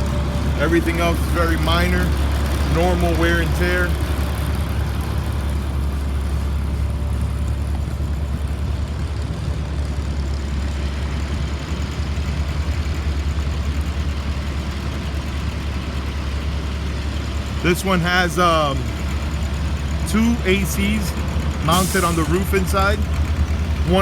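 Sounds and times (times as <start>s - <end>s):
bus diesel engine idling: 0.0s - 24.0s.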